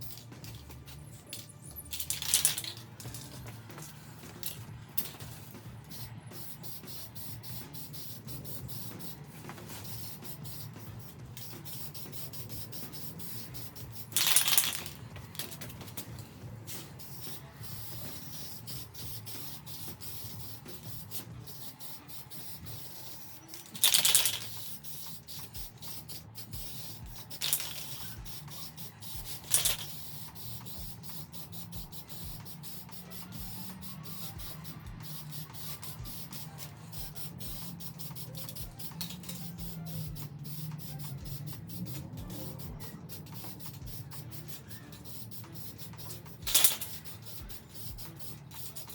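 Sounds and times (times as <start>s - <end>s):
aerosol spray can hissing: 0.0s - 48.9s.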